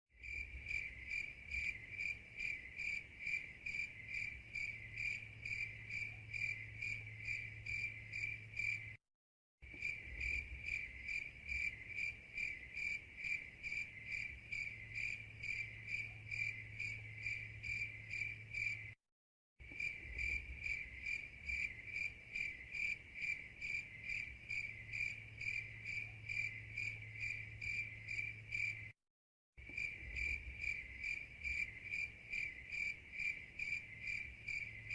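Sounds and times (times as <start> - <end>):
crickets chirping: 0.2 - 9.0, 9.6 - 19.0, 19.6 - 29.0, 29.6 - 34.9.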